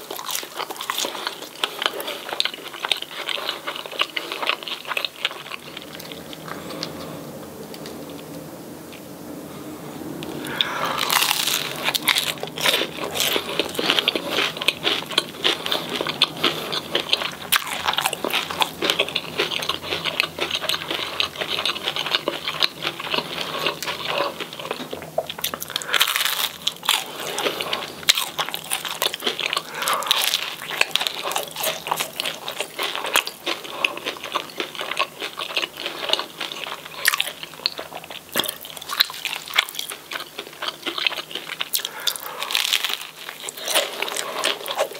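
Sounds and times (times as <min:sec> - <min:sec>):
chewing crispy food: 0:00.0 - 0:44.9.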